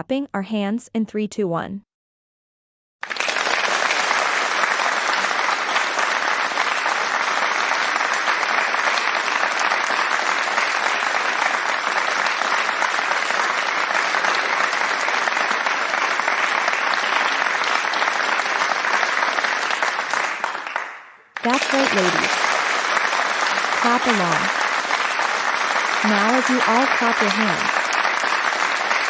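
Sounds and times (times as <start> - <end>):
crowd applause: 3.0 - 29.0.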